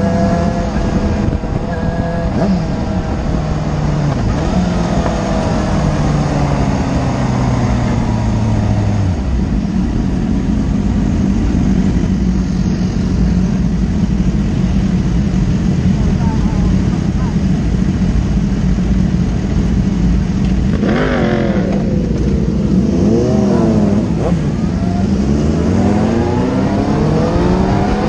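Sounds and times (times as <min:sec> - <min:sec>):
motorcycle engine: 0:00.0 - 0:28.0
wind rumble on microphone: 0:00.0 - 0:28.0.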